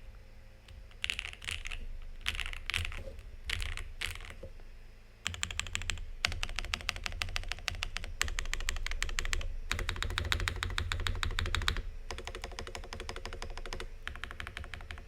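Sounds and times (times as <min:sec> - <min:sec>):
mechanical keyboard typing: 0:00.7 - 0:04.4, 0:05.2 - 0:15.0.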